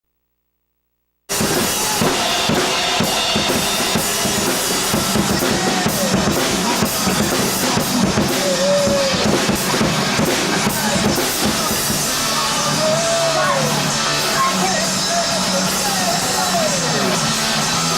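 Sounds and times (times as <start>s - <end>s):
rock music with hard drums: 1.3s - 17.9s.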